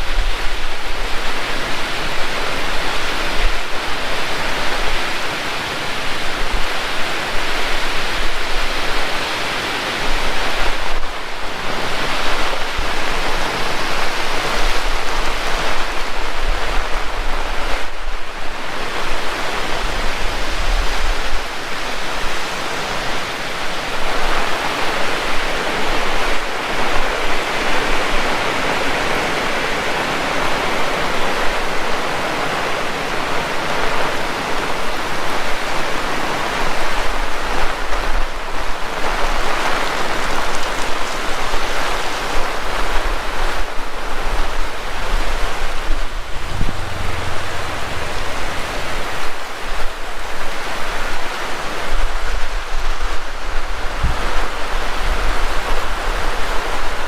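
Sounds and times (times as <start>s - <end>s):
heavy rain falling: 0.0s - 57.0s
wind rumbling on microphone: 0.0s - 57.0s.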